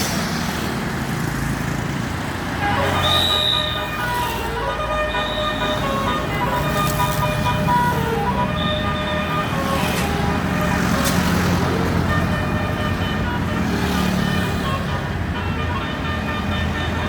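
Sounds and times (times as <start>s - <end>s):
bus engine rumble: 0.0s - 17.0s
multi-tone bus horn melody: 2.5s - 17.0s.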